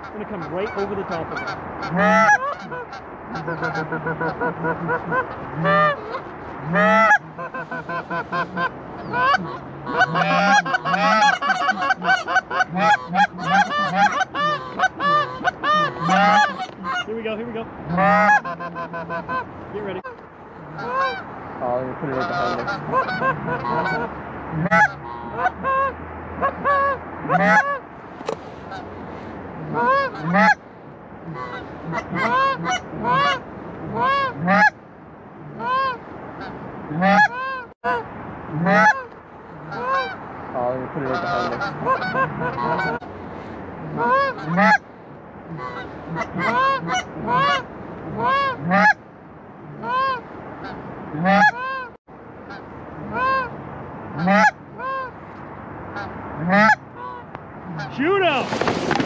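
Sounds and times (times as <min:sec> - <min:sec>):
geese honking: 0:00.0 - 0:28.9, 0:29.6 - 0:30.6, 0:31.2 - 0:34.8, 0:35.4 - 0:43.1, 0:43.8 - 0:44.8, 0:45.5 - 0:49.0, 0:49.7 - 0:55.2, 0:55.9 - 0:59.0.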